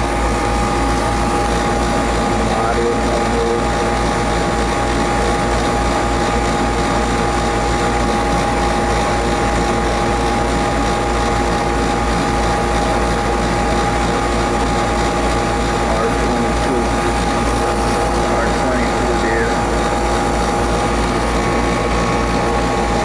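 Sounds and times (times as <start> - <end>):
heating system drone: 0.0 - 23.0.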